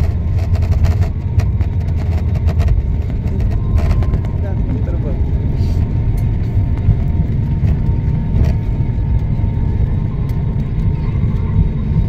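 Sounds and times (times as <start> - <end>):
airplane rumbling on runway: 0.0 - 12.0.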